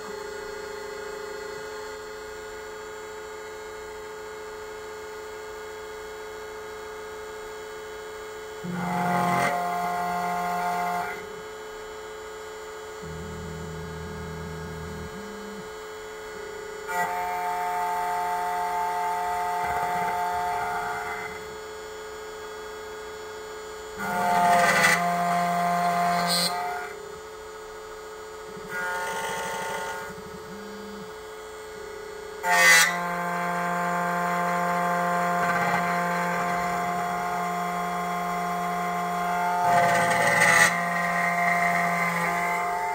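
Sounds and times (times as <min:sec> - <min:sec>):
key cutting machine whine: 0:00.0 - 0:42.9
machine hum: 0:00.0 - 0:42.9.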